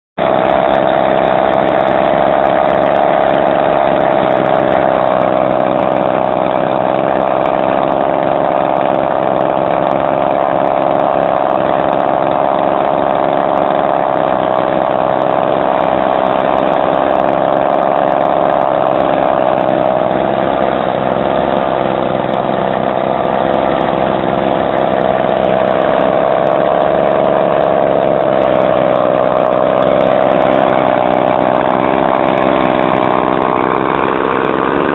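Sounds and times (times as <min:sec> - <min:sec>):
two-stroke engine running: 0:00.2 - 0:34.9.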